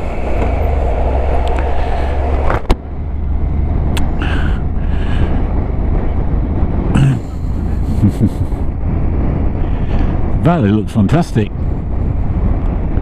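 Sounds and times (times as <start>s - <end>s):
motorcycle engine rumble: 0.0s - 13.0s
wind noise: 0.0s - 13.0s.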